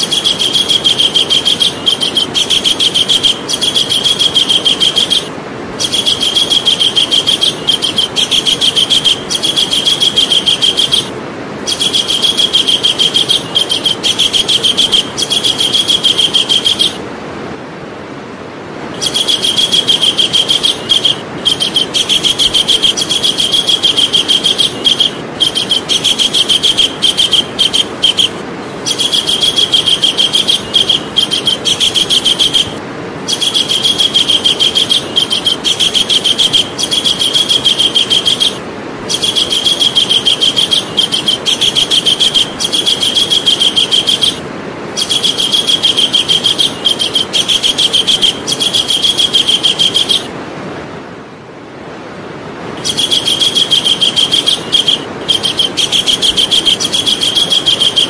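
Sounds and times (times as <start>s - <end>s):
kingfisher rattling call: 0.0s - 17.0s, 19.0s - 50.3s, 52.8s - 58.0s
steady background hiss: 0.0s - 58.0s.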